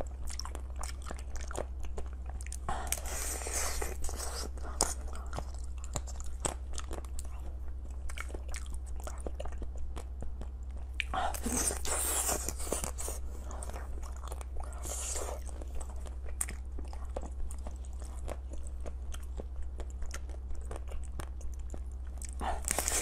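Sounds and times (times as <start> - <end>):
chewing crunchy food: 0.0 - 23.0
steady low hum: 0.0 - 23.0.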